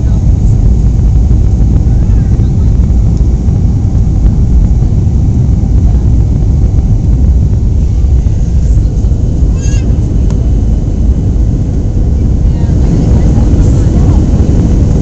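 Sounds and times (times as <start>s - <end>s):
jet engine rumble: 0.0s - 15.0s
rushing airflow: 0.0s - 15.0s.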